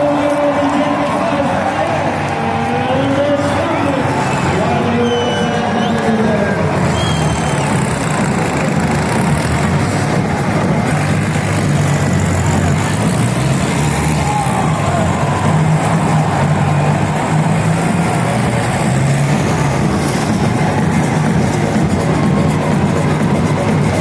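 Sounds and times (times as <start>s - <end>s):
race car engines running: 0.0s - 24.0s.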